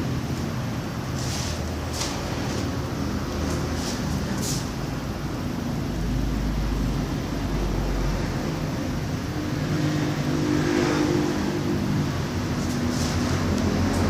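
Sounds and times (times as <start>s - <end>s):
noisy background: 0.0s - 14.0s.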